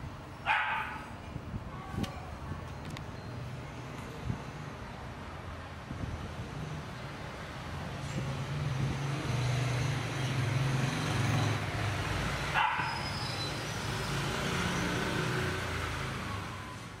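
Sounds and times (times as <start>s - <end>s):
traffic engine drone: 0.0s - 17.0s.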